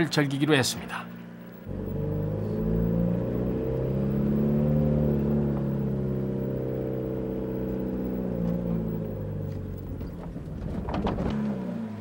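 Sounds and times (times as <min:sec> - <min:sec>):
van engine running: 0:01.2 - 0:12.0.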